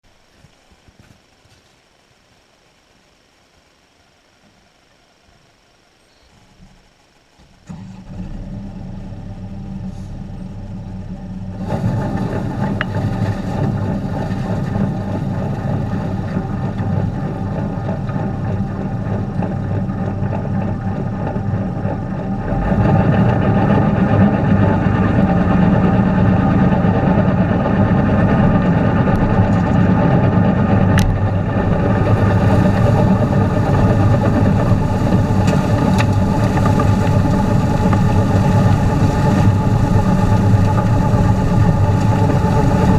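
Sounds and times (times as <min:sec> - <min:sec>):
tractor engine running: 0:06.3 - 0:42.9.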